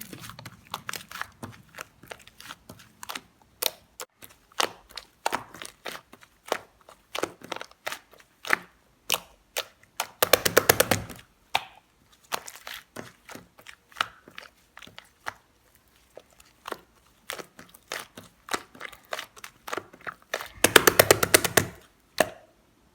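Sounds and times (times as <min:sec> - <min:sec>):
slime squished by hand: 0:00.0 - 0:22.4.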